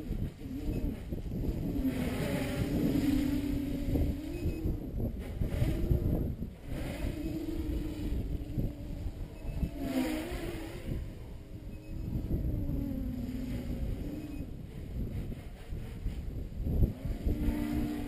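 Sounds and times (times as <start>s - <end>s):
drone motors and propellers whining: 0.0s - 18.0s.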